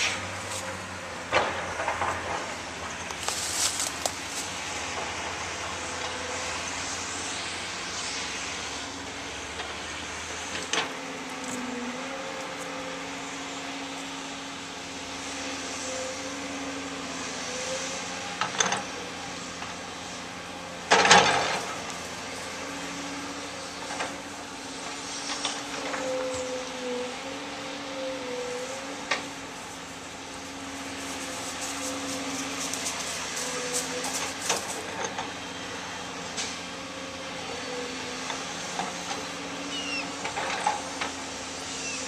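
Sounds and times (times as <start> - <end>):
diesel engines of heavy machinery: 0.0 - 42.0.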